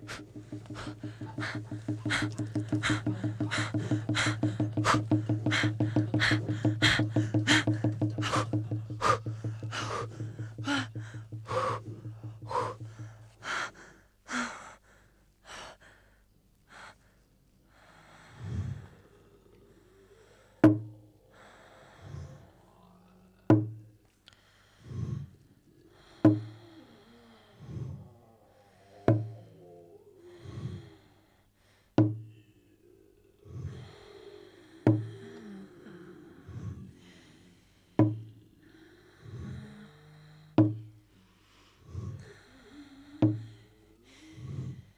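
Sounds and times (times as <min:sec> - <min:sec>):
heavy gasping breaths: 0:00.0 - 0:20.6, 0:21.2 - 0:22.8, 0:23.8 - 0:32.0, 0:32.8 - 0:44.9.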